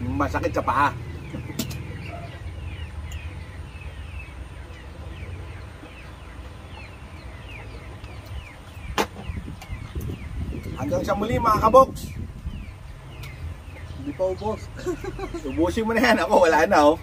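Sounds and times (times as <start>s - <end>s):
chickens chirping: 0.0s - 17.0s.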